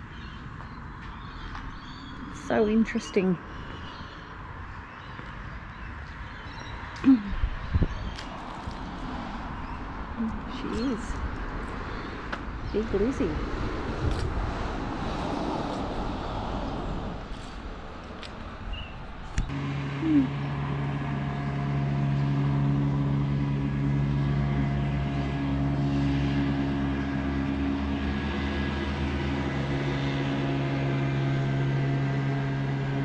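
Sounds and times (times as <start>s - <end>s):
vehicle engine droning: 0.0s - 33.0s.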